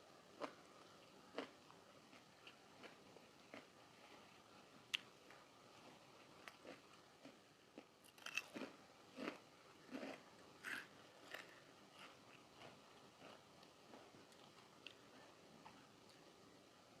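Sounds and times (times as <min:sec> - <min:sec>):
chewing crunchy food: 0:00.3 - 0:16.2.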